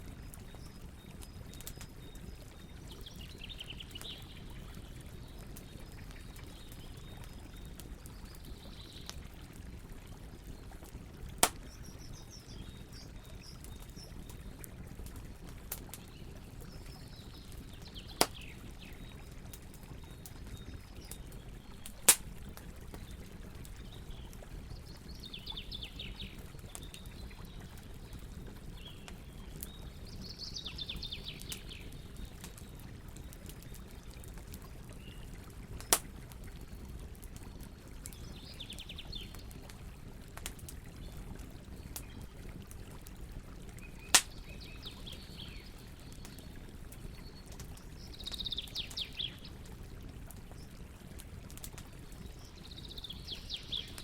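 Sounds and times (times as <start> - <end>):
campfire crackling: 0.0 - 54.0
fire popping: 0.1 - 29.9, 31.2 - 44.8, 45.4 - 54.0.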